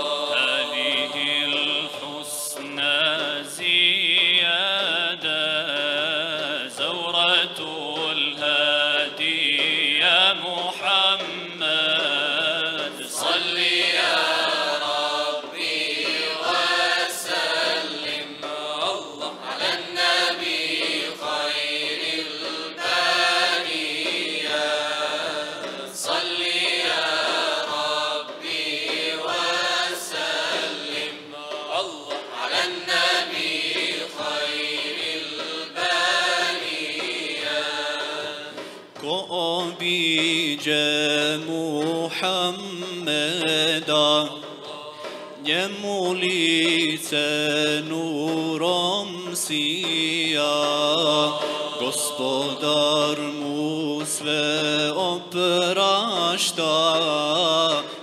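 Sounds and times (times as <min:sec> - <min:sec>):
choir singing a hymn: 0:00.0 - 0:58.0
frame drum strokes: 0:00.0 - 0:58.0
solo voices singing: 0:00.0 - 0:58.0.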